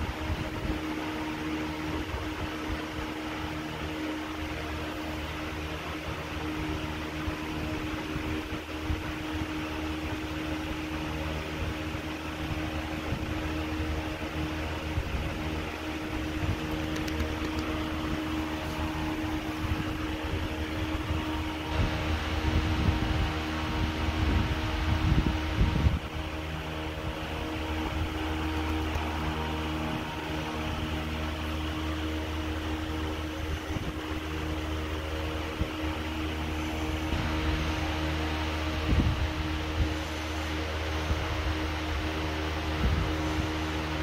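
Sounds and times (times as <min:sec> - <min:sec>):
fan humming and whirring: 0:00.0 - 0:44.0.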